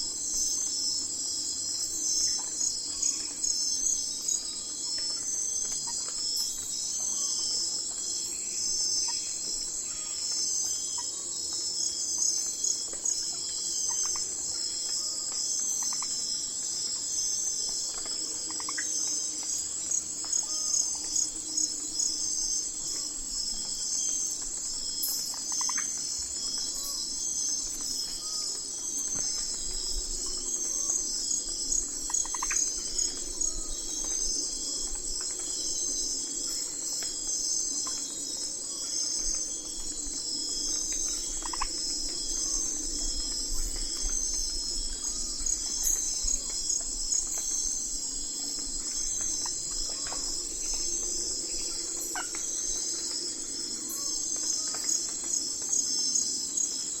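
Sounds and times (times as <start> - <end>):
crickets and insects trilling: 0.0 - 57.0.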